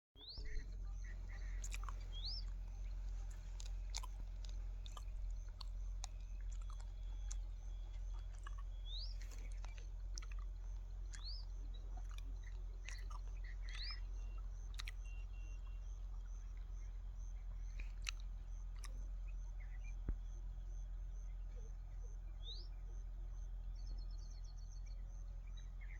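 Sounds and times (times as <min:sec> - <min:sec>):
steady low rumble: 0:00.2 - 0:25.9.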